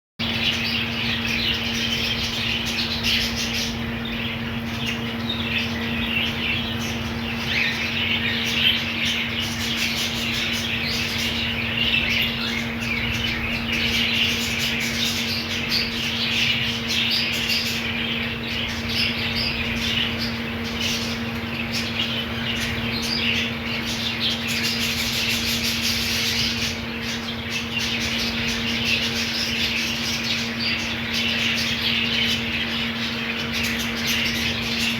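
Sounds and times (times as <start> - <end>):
budgies chattering and squawking: 0.2 - 34.9.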